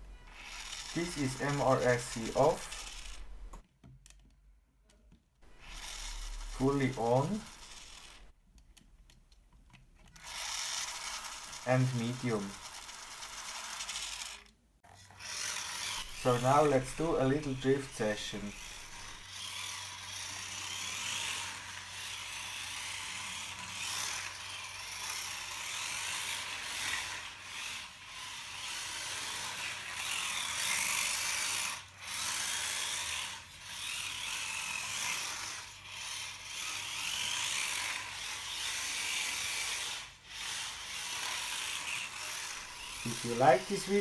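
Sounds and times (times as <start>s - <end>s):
small electric motor whining: 0.0s - 3.6s, 5.4s - 8.3s, 10.1s - 44.0s.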